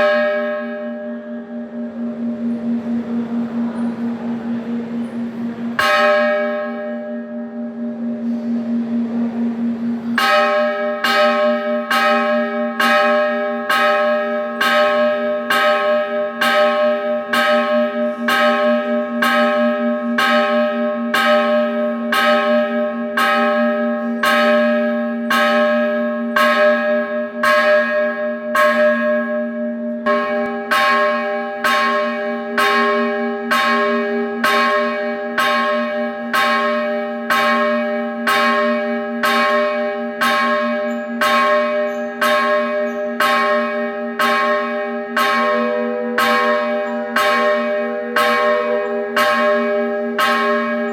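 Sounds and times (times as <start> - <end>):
large temple bell ringing: 0.0 - 50.9.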